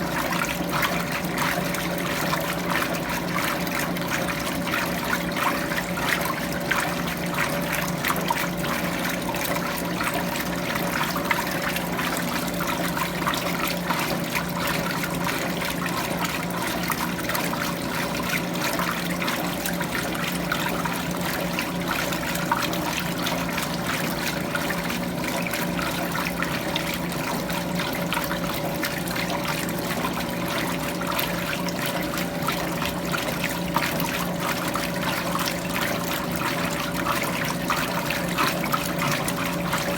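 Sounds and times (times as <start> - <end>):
washing machine hum: 0.0 - 39.9
water splashing in washing machine: 0.0 - 39.9.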